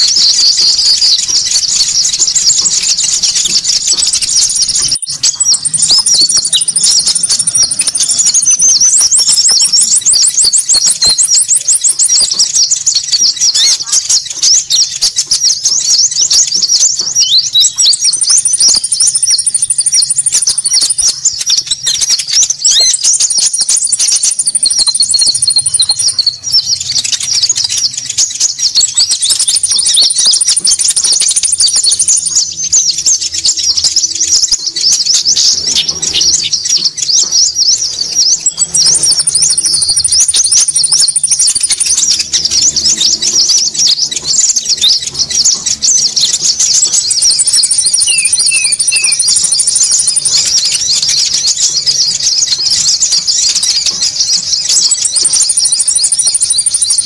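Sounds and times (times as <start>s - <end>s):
songbirds chattering: 0.0s - 57.0s
very high bird trills: 0.0s - 57.0s.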